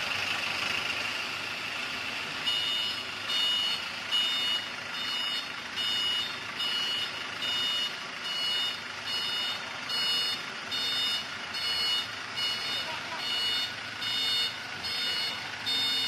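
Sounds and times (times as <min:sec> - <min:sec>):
high-pitched electronic beeps: 0:02.4 - 0:16.0.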